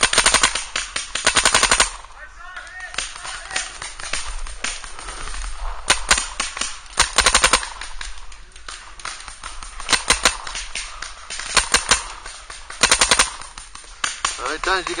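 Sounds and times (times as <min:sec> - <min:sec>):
paintball marker firing: 0:02.8 - 0:15.0.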